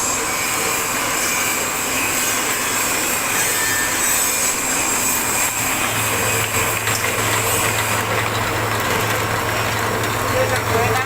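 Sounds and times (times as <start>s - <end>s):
pellet mill running: 0.0s - 11.0s.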